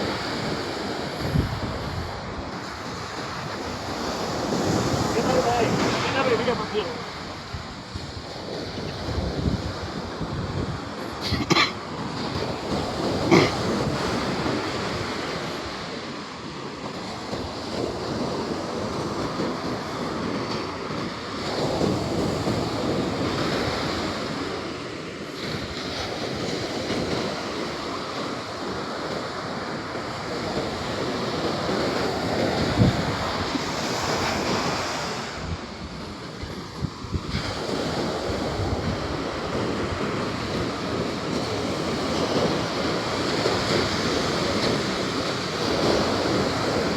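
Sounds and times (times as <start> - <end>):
ocean surf breaking: 0.0 - 46.9
wind buffeting microphone: 0.0 - 46.9.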